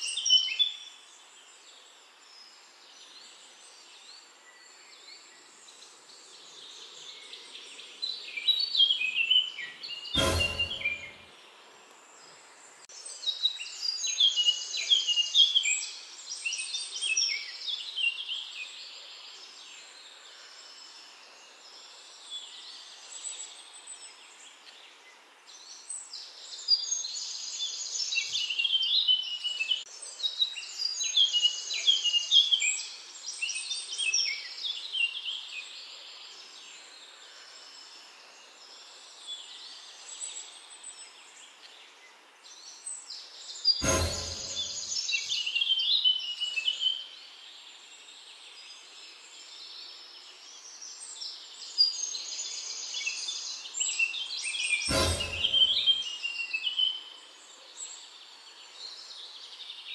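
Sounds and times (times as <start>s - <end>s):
songbird singing chirps and trills: 0.0s - 10.2s, 10.9s - 43.8s, 44.6s - 54.9s
outdoor background noise: 0.0s - 59.9s.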